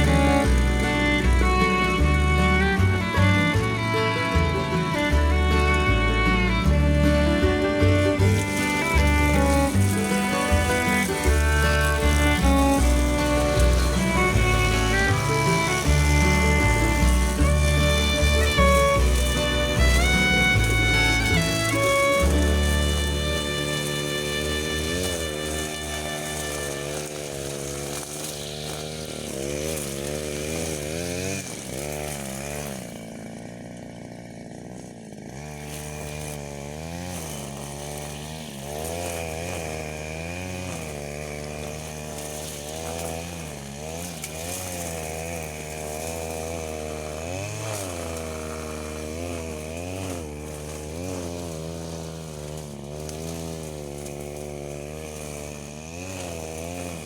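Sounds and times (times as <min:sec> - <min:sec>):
small petrol engine revving: 0:00.0 - 0:57.0.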